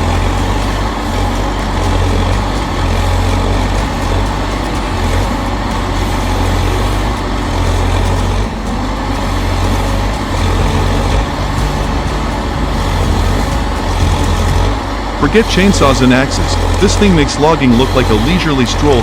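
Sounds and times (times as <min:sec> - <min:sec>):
heavy diesel engine droning: 0:00.0 - 0:19.0.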